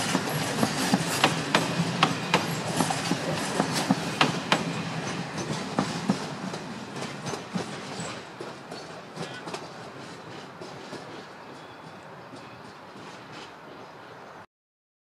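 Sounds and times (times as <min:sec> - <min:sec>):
train wheels clacking over rail joints: 0:00.0 - 0:14.1
train rumble: 0:00.0 - 0:14.4.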